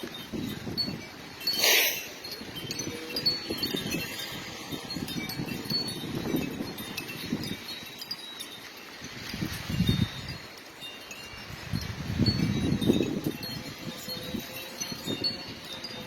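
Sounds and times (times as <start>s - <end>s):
wind buffeting microphone: 0.0s - 8.1s, 9.0s - 16.0s
wind chimes ringing: 0.0s - 16.0s.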